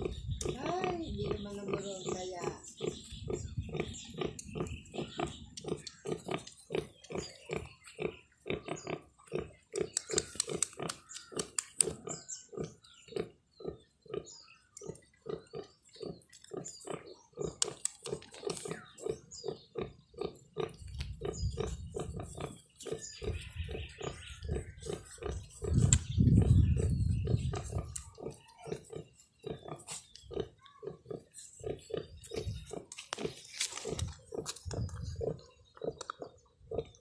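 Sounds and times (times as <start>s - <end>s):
sow grunting: 0.0s - 37.0s.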